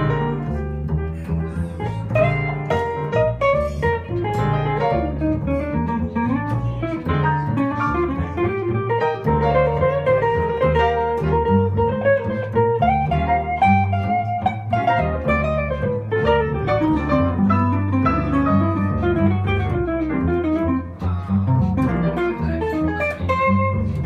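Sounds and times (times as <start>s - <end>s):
piano: 0.0s - 24.0s
plucked string instrument melody: 0.0s - 24.0s
plucked upright double bass: 0.0s - 24.0s.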